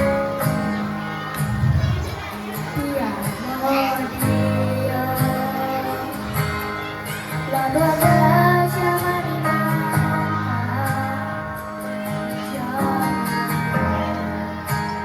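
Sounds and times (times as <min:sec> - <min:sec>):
children's choir singing: 0:00.0 - 0:15.0.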